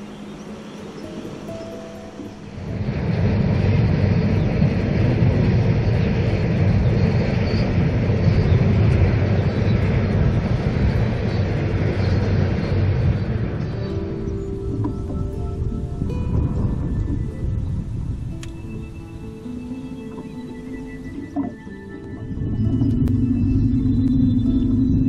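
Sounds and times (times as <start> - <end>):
wind buffeting the microphone: 0.0 - 25.0.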